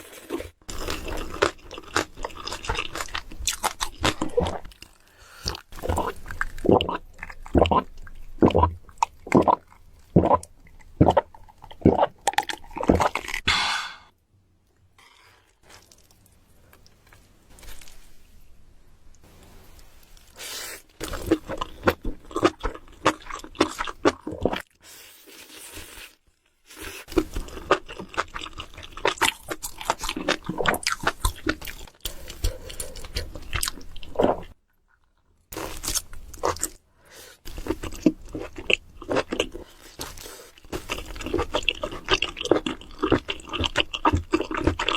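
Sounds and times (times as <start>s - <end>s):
person crunching and chewing food: 0.0s - 13.4s, 15.0s - 18.1s, 20.1s - 44.9s.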